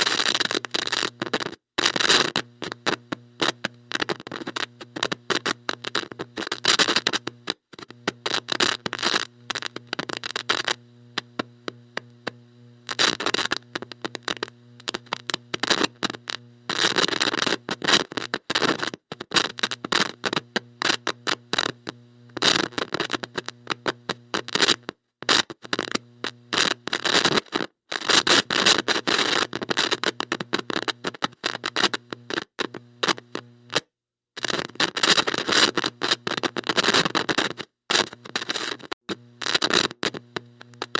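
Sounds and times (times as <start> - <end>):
static crackle: 0.0 - 40.9.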